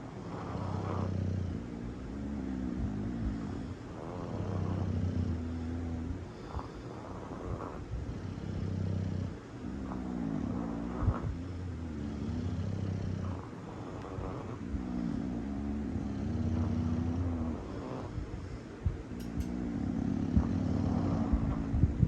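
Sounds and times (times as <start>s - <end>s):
dog snoring: 0.0s - 22.0s.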